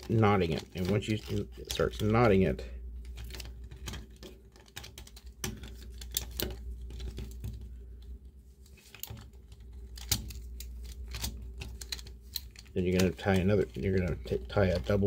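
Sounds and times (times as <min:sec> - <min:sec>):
plastic figure parts clicking: 0:00.0 - 0:08.2, 0:08.8 - 0:15.0
low steady hum: 0:00.0 - 0:15.0.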